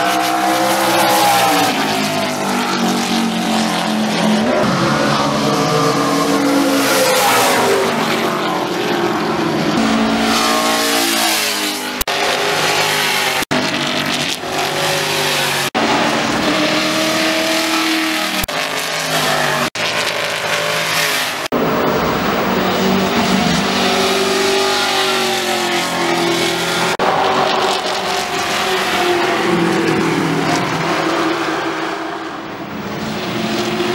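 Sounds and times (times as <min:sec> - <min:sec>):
engines revving loudly: 0:00.0 - 0:33.9.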